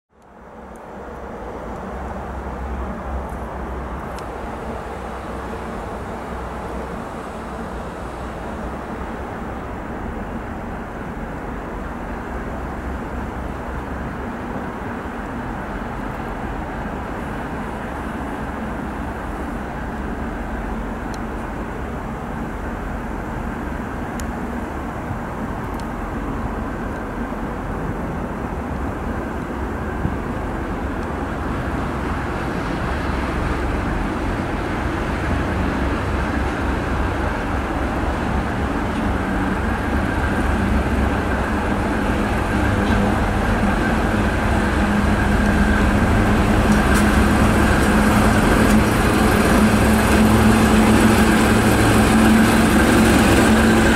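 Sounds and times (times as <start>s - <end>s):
diesel locomotive engine hum: 0.1s - 53.9s
rail noise: 0.1s - 53.9s.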